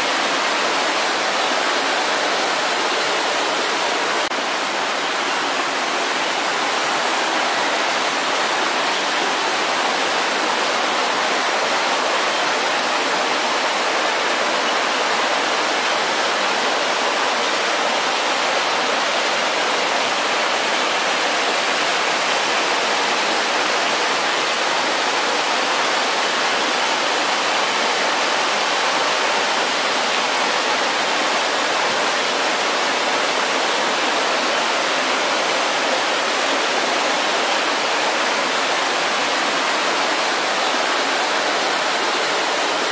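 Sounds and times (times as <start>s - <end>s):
waterfall rushing over rocks: 0.0s - 42.9s.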